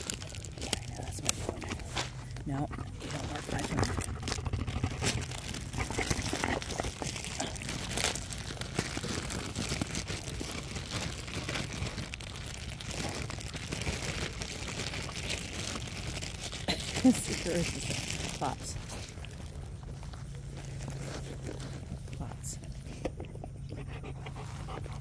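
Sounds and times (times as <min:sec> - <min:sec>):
dry grass crackling: 0:00.0 - 0:23.6.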